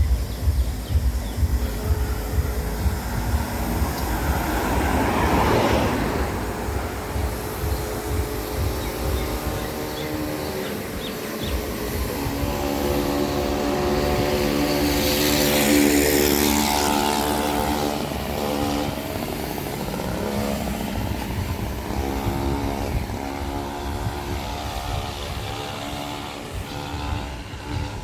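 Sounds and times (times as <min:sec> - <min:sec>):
rushing hiss: 0:00.0 - 0:28.0
vehicle engine passing: 0:00.0 - 0:28.0.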